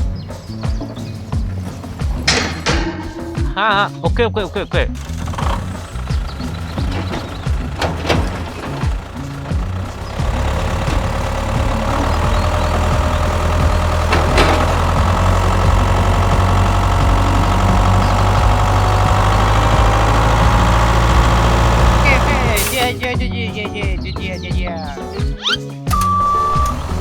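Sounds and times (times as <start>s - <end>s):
vehicle engine running: 0.0s - 23.3s, 25.9s - 27.0s.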